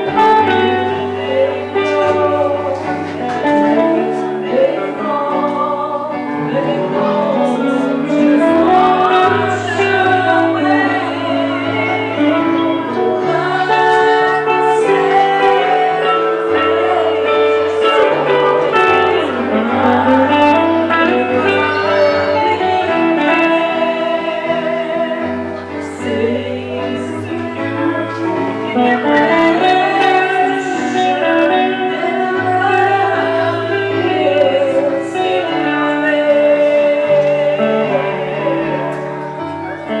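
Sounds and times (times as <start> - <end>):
gospel singing with instruments: 0.0 - 40.0.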